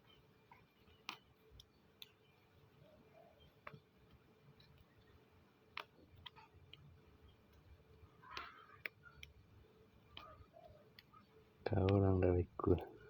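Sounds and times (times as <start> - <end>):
soft rustle: 0.0 - 13.0
faint sharp clicks: 0.5 - 2.4, 3.1 - 13.0.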